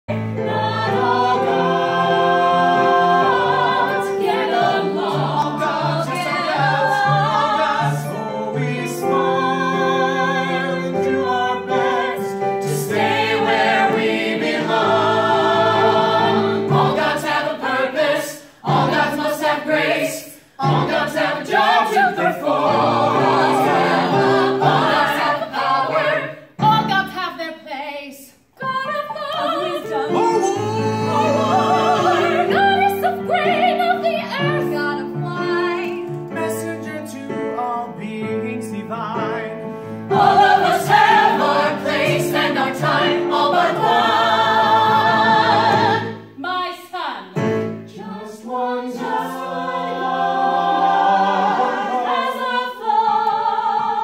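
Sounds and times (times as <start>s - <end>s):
group singing in harmony: 0.1s - 26.6s, 28.6s - 54.0s.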